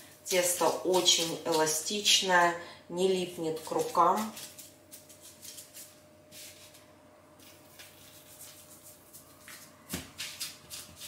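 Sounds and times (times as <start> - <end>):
gloves and paper rustling: 0.0 - 2.3, 3.2 - 11.0.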